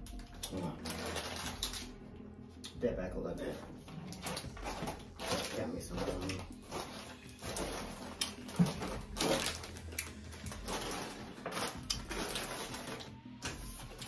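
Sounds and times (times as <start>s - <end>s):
snack packets crinkling: 0.0s - 2.0s, 4.2s - 14.0s.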